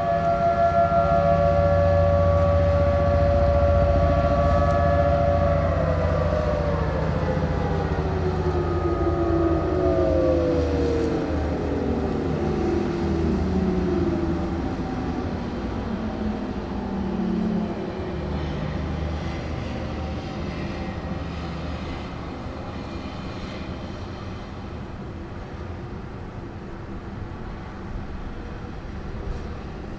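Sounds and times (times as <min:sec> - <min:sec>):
tornado siren winding down: 0:00.0 - 0:25.6.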